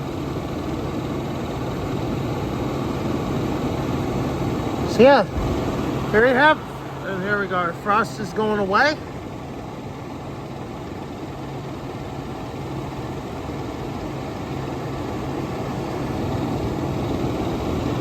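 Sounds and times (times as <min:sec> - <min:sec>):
air conditioner fan rush: 0:00.0 - 0:18.0
compressor low hum: 0:00.0 - 0:18.0.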